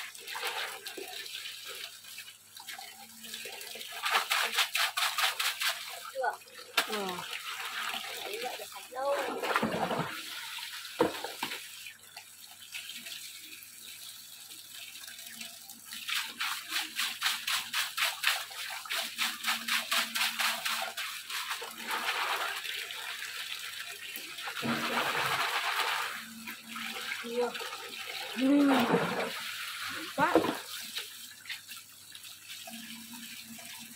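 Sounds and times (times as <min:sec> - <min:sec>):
water running and splashing: 0:00.0 - 0:33.9.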